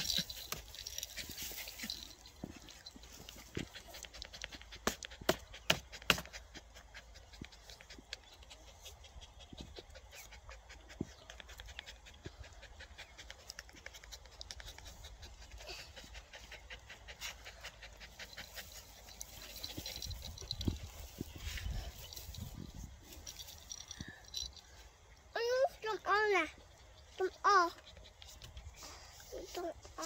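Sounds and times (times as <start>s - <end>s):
puppy panting: 0.0s - 22.6s, 25.3s - 30.0s.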